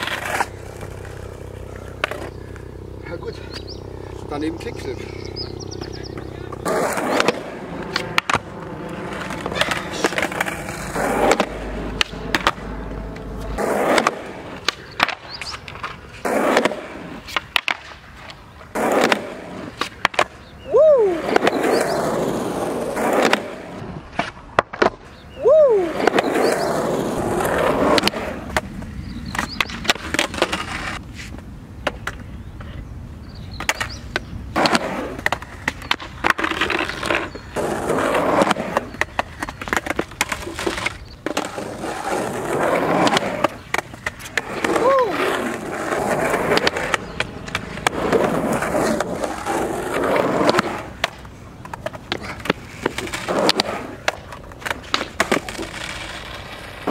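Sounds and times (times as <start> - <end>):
skateboard clacking: 0.0 - 4.6, 5.4 - 32.8, 33.5 - 56.9
skateboard wheels rolling on concrete: 0.0 - 56.9.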